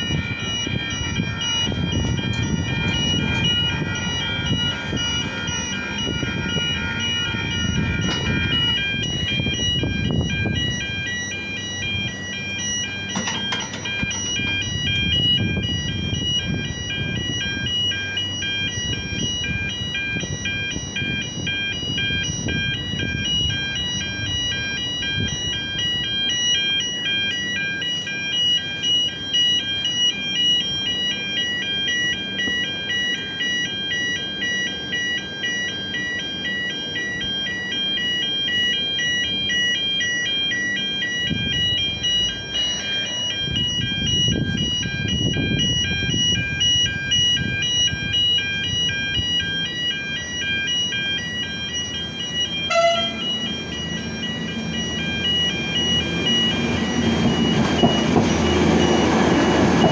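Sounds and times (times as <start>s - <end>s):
level crossing warning bells: 0.0s - 59.9s.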